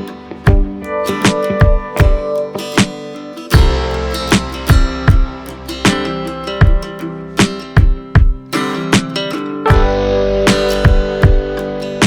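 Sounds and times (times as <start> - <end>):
acoustic guitar strumming: 0.0 - 12.0
steady beat: 0.0 - 12.0.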